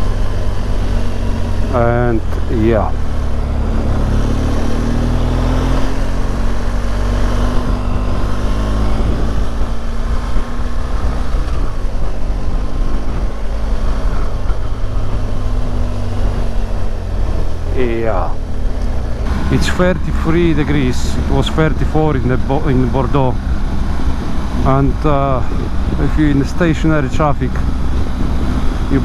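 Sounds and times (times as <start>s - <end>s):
motorcycle engine at low revs: 0.0s - 29.0s
road and wind noise: 0.0s - 29.0s.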